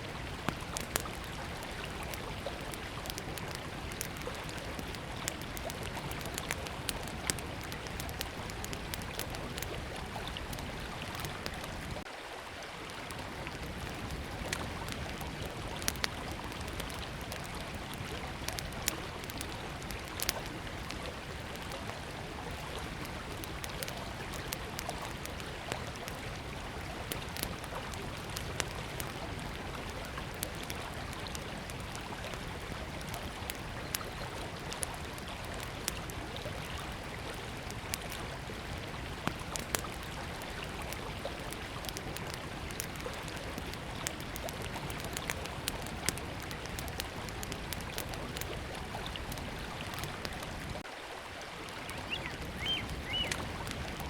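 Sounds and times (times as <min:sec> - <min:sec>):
river flowing: 0:00.0 - 0:54.0
wood fire crackling and popping: 0:00.1 - 0:12.1, 0:13.0 - 0:50.9, 0:51.9 - 0:54.0.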